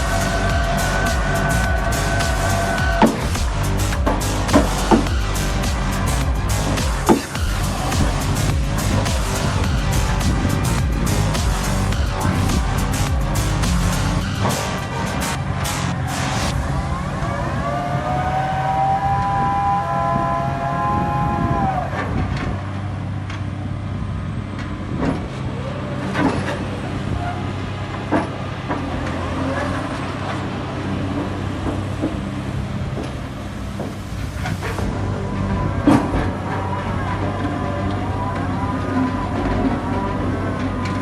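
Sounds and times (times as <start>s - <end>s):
diesel engine running: 0.0s - 18.8s, 20.7s - 41.0s
engine whine: 0.0s - 41.0s.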